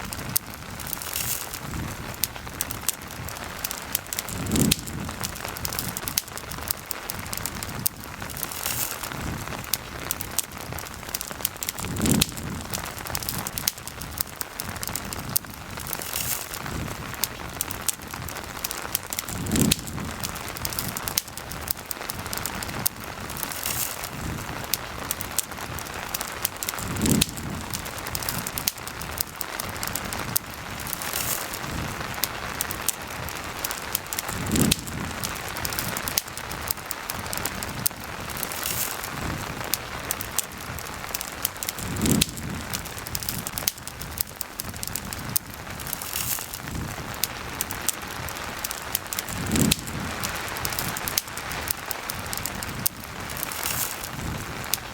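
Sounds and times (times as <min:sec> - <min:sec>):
campfire crackling and popping: 0:00.0 - 0:54.9
rain falling: 0:00.0 - 0:54.9.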